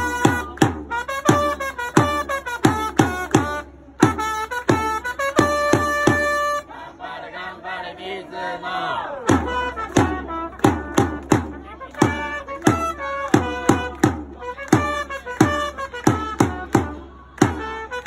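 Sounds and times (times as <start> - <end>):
trumpet playing cheer song: 0.0 - 6.7, 9.1 - 18.0
crowd voices: 0.0 - 18.0.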